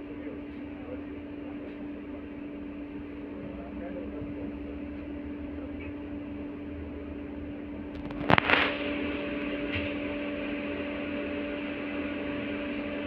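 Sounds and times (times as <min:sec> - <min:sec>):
higher hum tone: 0:00.0 - 0:13.0
tram electrical hum: 0:00.0 - 0:13.0.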